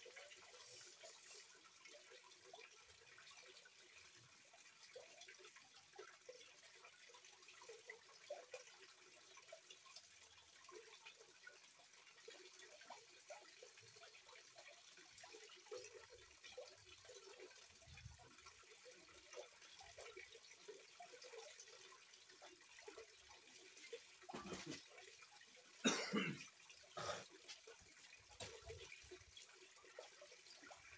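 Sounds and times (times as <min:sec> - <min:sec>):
water trickling: 0:00.0 - 0:30.9.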